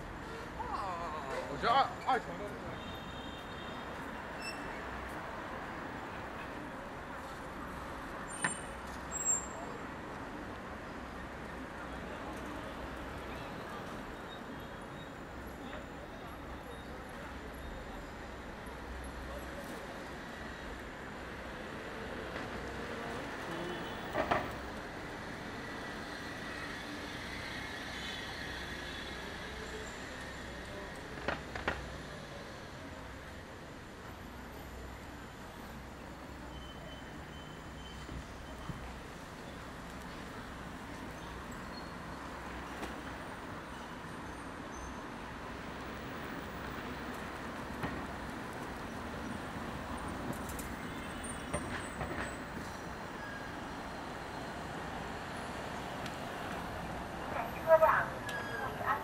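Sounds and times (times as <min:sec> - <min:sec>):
road noise hum: 0:00.0 - 0:36.5, 0:38.0 - 0:59.0.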